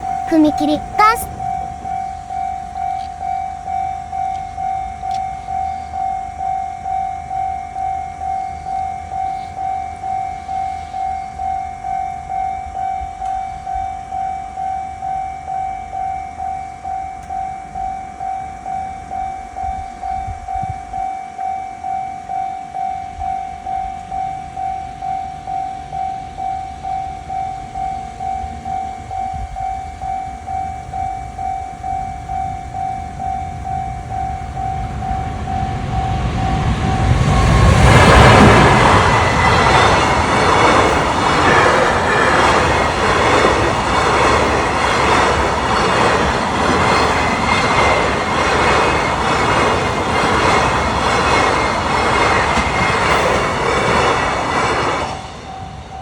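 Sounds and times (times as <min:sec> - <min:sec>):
level-crossing warning bell dings: 0:01.6 - 0:56.0.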